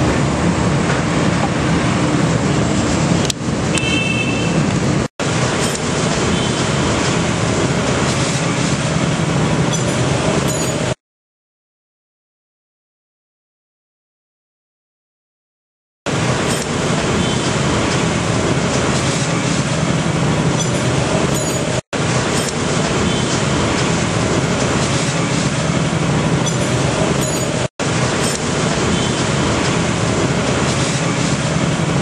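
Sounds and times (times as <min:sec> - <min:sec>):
loud rumbling noise: 0:00.0 - 0:03.8, 0:04.4 - 0:11.0, 0:16.1 - 0:32.0.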